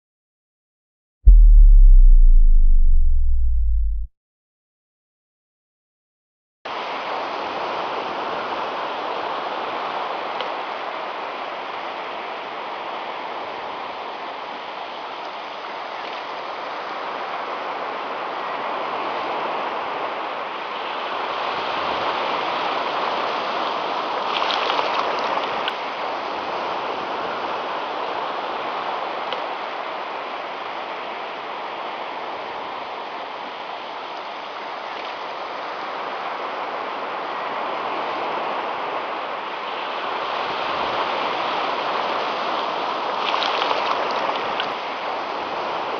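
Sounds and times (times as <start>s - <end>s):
small waves breaking on beach: 6.8s - 45.9s.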